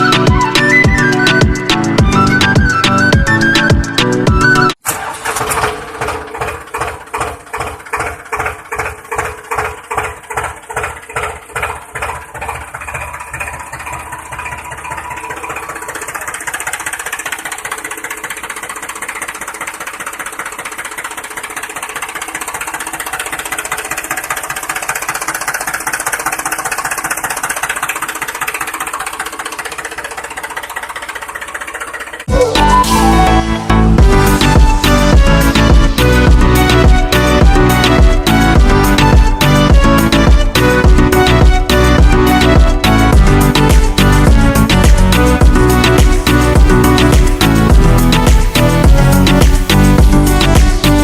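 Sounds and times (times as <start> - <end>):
tractor engine chugging: 0.0 - 51.0.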